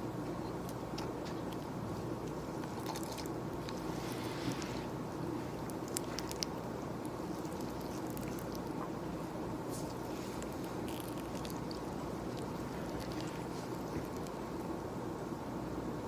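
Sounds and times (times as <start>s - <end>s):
office room hum: 0.0s - 16.0s.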